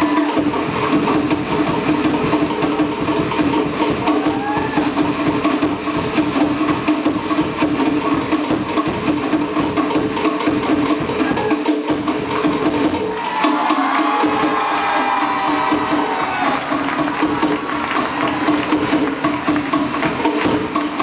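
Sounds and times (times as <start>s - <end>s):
slit log drums drumming fast: 0.0s - 21.0s.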